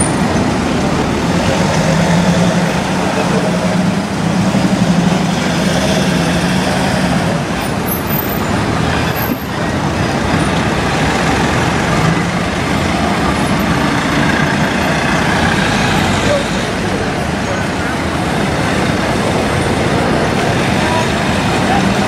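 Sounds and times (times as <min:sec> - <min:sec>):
bus diesel engine running: 0:00.0 - 0:22.0
street traffic: 0:00.0 - 0:22.0.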